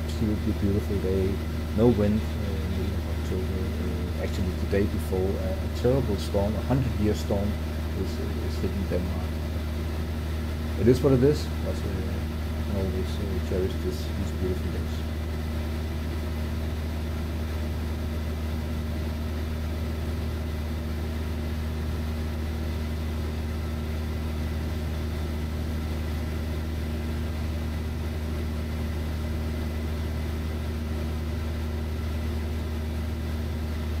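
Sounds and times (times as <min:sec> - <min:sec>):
aircraft engine drone in cockpit: 0:00.0 - 0:34.0.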